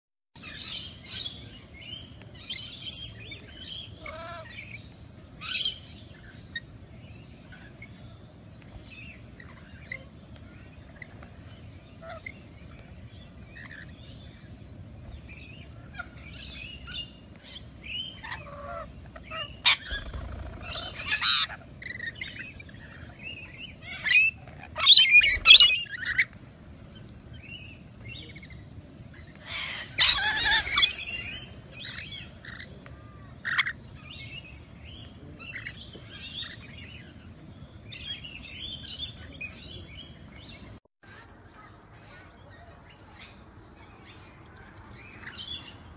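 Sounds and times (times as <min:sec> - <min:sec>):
lorikeets chattering and screeching: 0:00.4 - 0:45.9.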